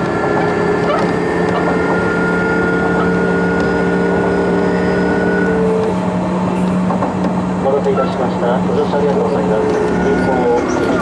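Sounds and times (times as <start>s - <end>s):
train inverter and motor tones: 0.0s - 11.0s
wheel and rail rumble: 0.0s - 11.0s.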